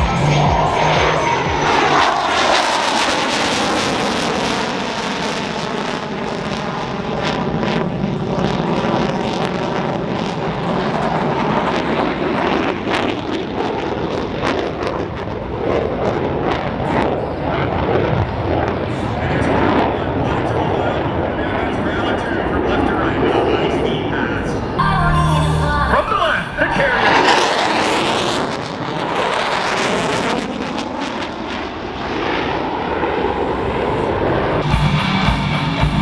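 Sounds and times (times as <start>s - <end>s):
jet roar: 0.0s - 36.0s.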